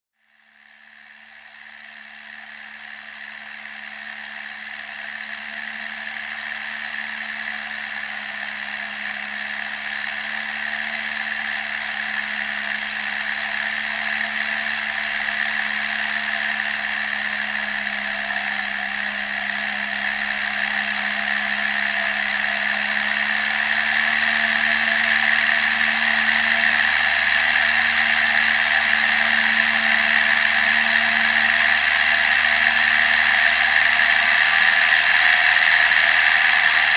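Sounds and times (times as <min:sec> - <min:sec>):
high-pitched mechanical whine: 0:00.2 - 0:36.9
tractor diesel engine running: 0:00.8 - 0:36.9.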